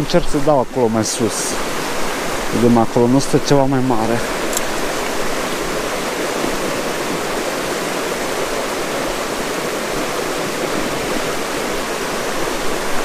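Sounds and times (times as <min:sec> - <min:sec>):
mountain river rushing: 0:00.0 - 0:13.0.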